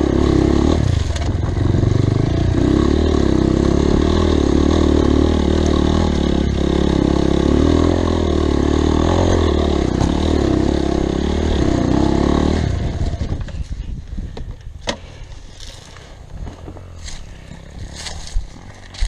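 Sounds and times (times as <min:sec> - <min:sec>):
motorcycle engine revving: 0:00.0 - 0:13.9, 0:15.5 - 0:19.0.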